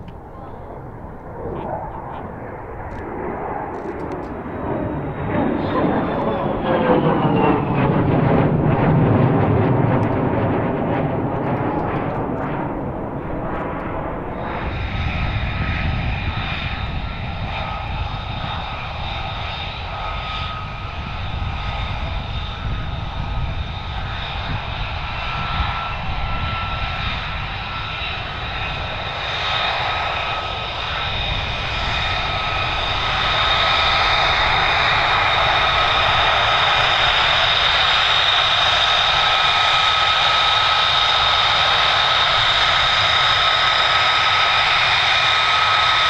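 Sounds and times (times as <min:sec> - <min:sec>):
jet engine whine and rumble: 0:00.0 - 0:46.0.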